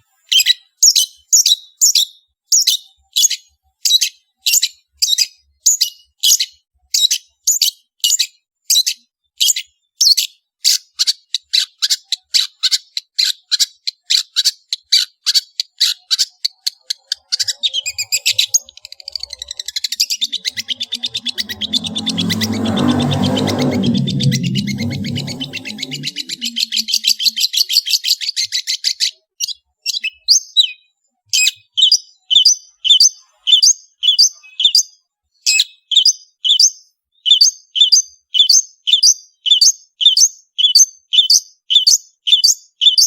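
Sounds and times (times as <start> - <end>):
songbird calling and trilling: 0.2 - 22.3, 24.6 - 43.0.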